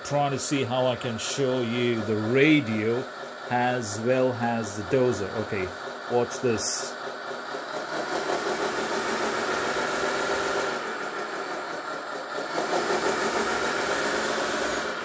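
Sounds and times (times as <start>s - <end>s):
simulated diesel engine revving: 0.0s - 15.0s.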